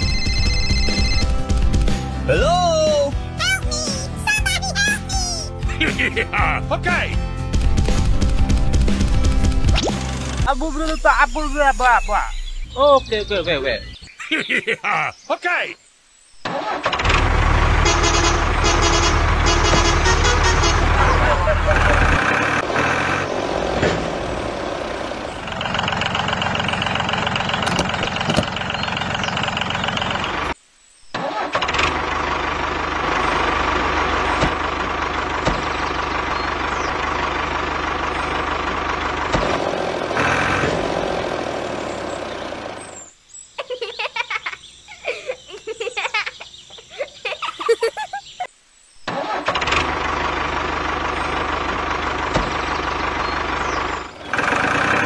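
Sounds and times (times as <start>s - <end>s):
tractor engine running: 0.0s - 13.2s, 16.4s - 30.6s, 31.2s - 43.1s, 49.1s - 55.0s.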